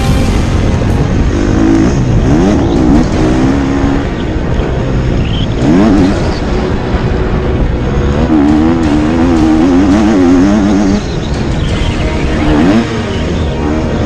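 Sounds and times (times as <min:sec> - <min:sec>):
motocross bike engine revving: 0:00.0 - 0:14.0
wind rumble on camera: 0:00.0 - 0:14.0.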